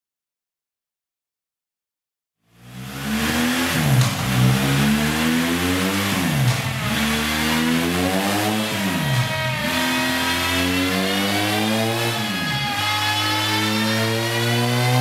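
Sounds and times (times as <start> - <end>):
motorcycle engine revving through gears: 2.4 - 15.0.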